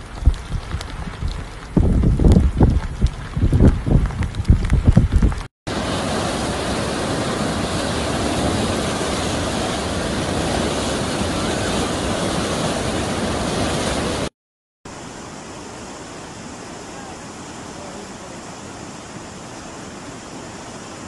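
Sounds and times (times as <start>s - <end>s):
water rushing over rocks: 0.6s - 14.3s, 14.9s - 21.0s.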